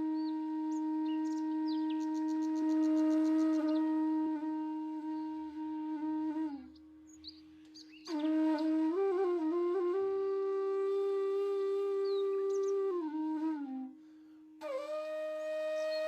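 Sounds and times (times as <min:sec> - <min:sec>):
flute-like wind instrument notes: 0:00.0 - 0:07.4, 0:08.0 - 0:16.0.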